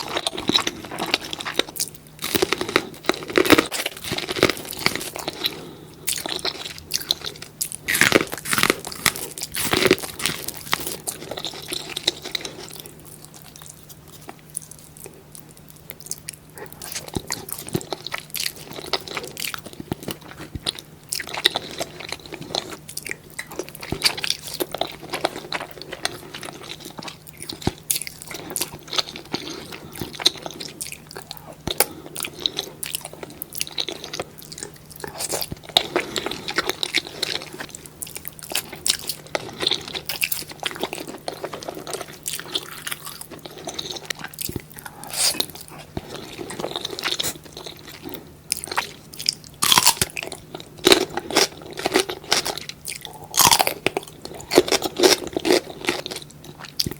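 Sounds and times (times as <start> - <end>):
crunchy bites and chewing: 0.0 - 56.9
faint steady hum: 0.0 - 56.9.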